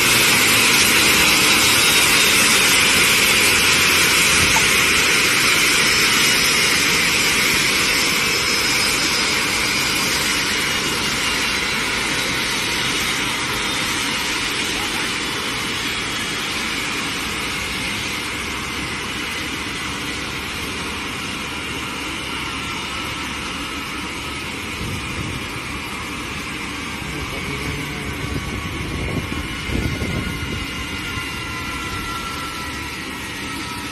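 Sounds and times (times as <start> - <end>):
jet engines whining: 0.0 - 33.9.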